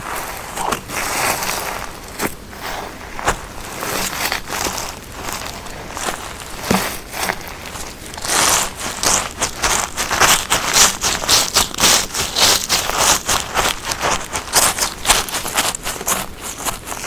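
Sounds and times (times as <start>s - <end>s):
footsteps on grass and moss: 0.0s - 17.0s.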